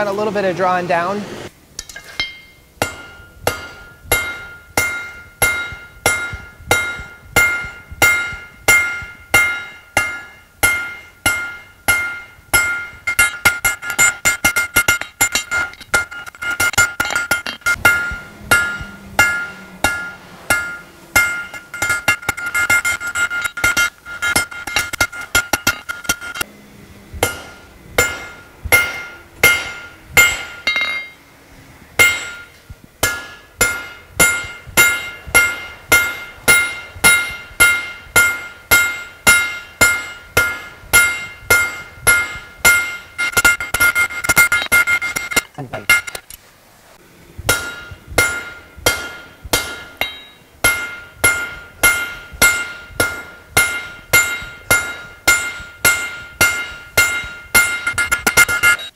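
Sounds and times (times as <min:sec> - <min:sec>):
hammer striking steel on anvil: 0:01.8 - 0:26.5, 0:27.2 - 0:31.2, 0:32.0 - 0:46.3, 0:47.5 - 0:58.9.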